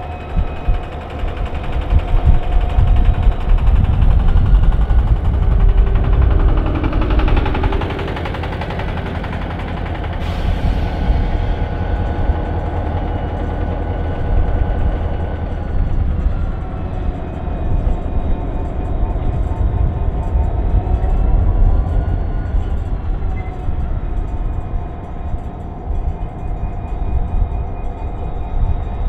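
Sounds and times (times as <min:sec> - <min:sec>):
faint whining tones: 0:00.0 - 0:29.0
train running: 0:00.0 - 0:29.0.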